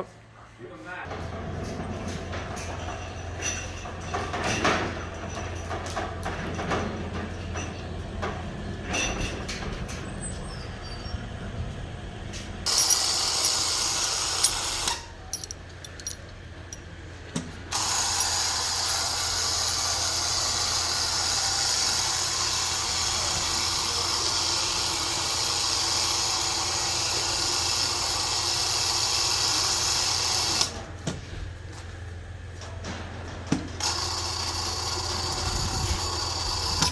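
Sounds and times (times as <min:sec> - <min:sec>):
electric hoist motor running: 0:01.1 - 0:31.0, 0:33.5 - 0:36.9.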